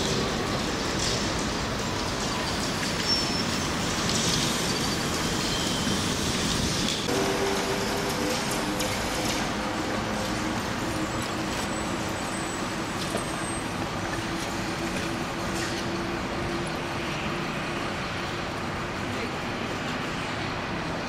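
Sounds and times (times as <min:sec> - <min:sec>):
street traffic road noise: 0:00.0 - 0:21.0.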